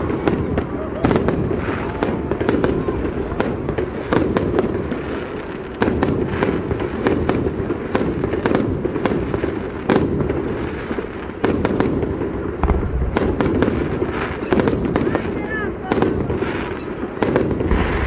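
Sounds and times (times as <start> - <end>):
fireworks bursting with sharp bangs: 0.0 - 18.0.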